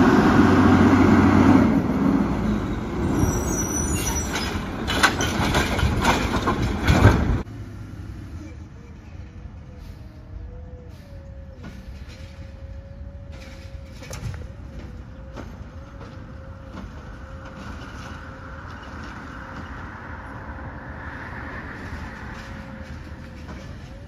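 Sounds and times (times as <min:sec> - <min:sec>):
truck engine rumble: 0:00.0 - 0:24.0.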